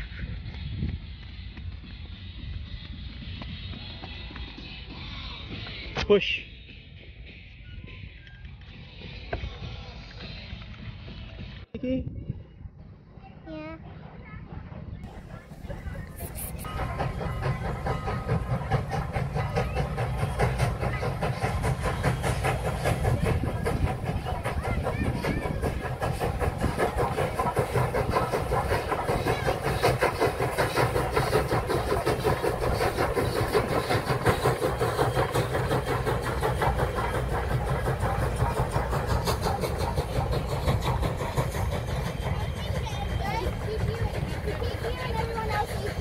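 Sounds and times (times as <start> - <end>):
steam locomotive exhaust chuffing: 0.0 - 11.5, 13.8 - 46.0
train rumbling on rails: 0.0 - 46.0.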